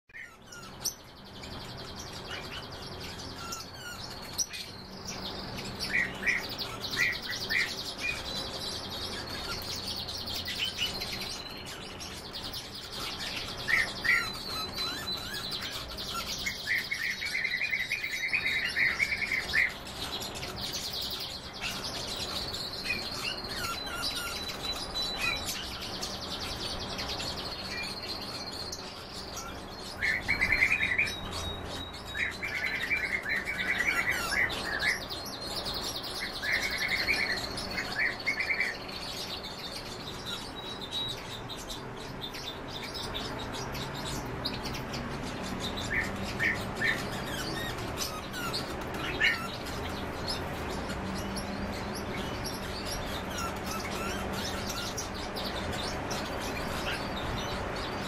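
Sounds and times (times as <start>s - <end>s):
songbirds chirping and singing: 0.0s - 58.0s.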